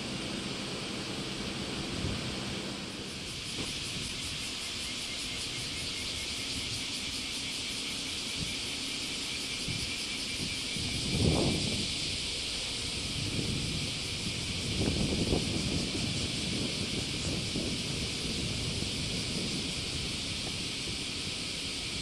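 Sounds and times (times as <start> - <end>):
outdoor background hiss: 0.0 - 22.0
wind rumble on microphone: 0.0 - 22.0.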